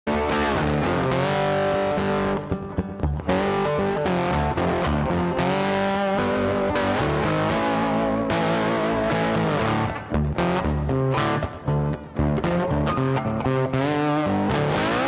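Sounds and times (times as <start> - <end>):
guitar intro music: 0.1 - 15.0.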